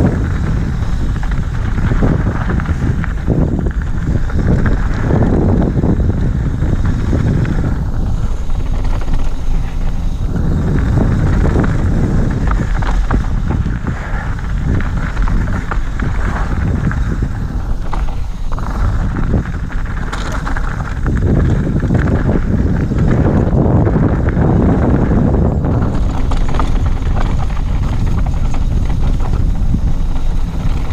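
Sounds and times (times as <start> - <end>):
bike rattling over stones: 0.0 - 30.9
tyres crunching over gravel: 0.0 - 30.9
wind rushing over microphone: 0.0 - 30.9.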